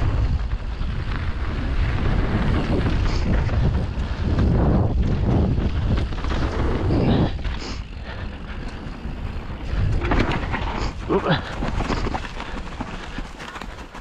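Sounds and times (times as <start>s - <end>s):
wind rushing over microphone: 0.0s - 13.3s
bike rattling: 0.0s - 14.0s
tyres crunching on gravel: 0.1s - 14.0s.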